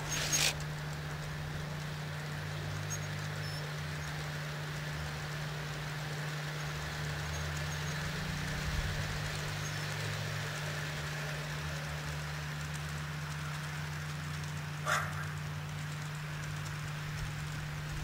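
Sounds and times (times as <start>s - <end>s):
model trains humming: 0.0s - 18.0s.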